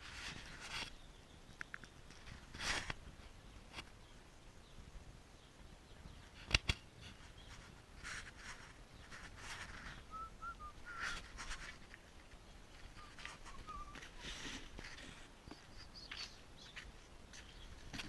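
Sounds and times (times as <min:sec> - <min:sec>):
scraping and rustling: 0:00.0 - 0:01.0, 0:02.1 - 0:03.9, 0:06.3 - 0:18.0.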